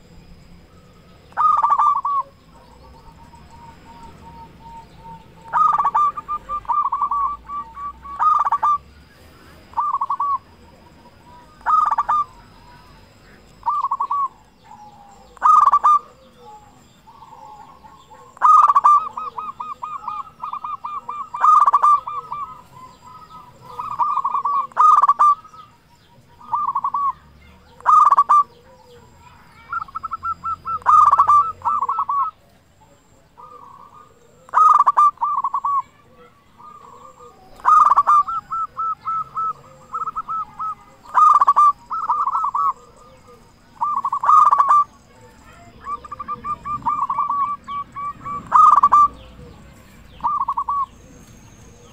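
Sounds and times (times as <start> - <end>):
doves cooing loudly: 0.0 - 51.9.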